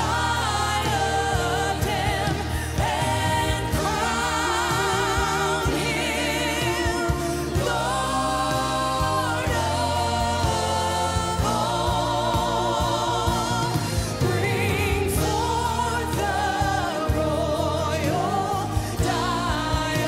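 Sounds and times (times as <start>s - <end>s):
backing singers: 0.0s - 20.0s
band with drums: 0.0s - 20.0s
woman singing with vibrato: 0.0s - 20.0s.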